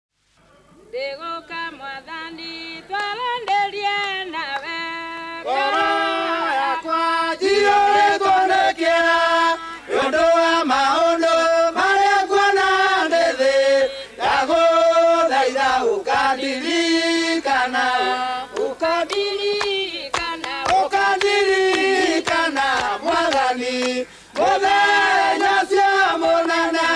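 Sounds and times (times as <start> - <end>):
group singing gospel song: 1.5 - 26.9.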